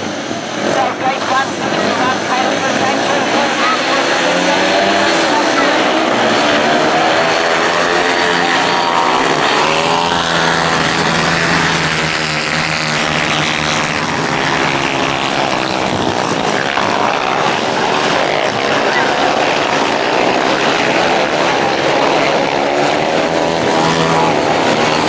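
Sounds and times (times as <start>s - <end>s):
motorbike engines racing: 0.0s - 25.0s.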